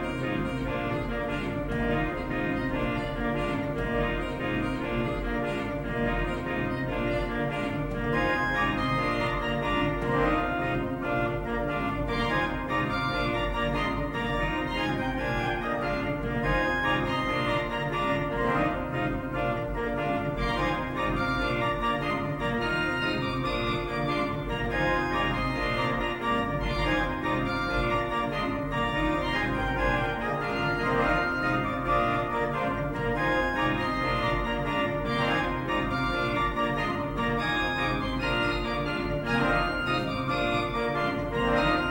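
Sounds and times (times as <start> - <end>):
pipe organ playing: 0.0 - 41.9.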